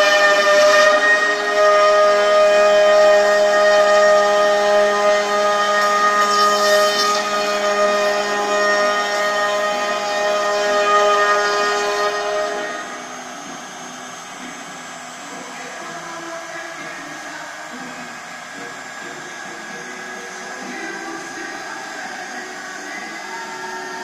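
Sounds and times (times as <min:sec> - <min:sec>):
cnc router spindle whirring: 0:00.0 - 0:24.0
high pitched whine: 0:00.0 - 0:24.0.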